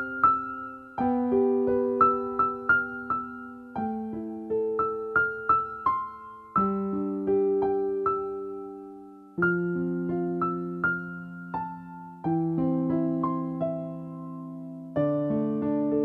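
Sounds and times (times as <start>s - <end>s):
gentle keyboard melody: 0.0s - 16.0s.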